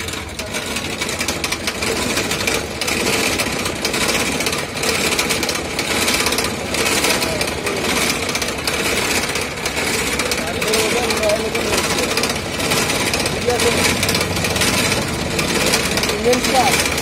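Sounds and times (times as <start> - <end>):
cotton candy machine rattling: 0.0 - 17.0.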